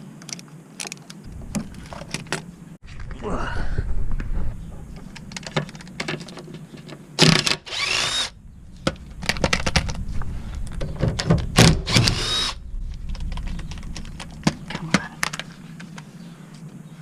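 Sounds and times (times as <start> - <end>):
low steady hum: 1.2 - 17.0.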